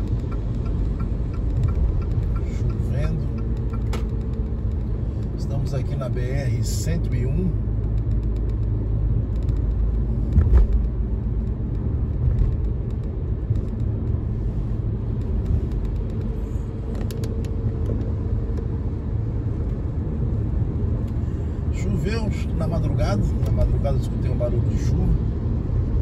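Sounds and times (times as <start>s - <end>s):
car road noise inside cabin: 0.0s - 26.0s.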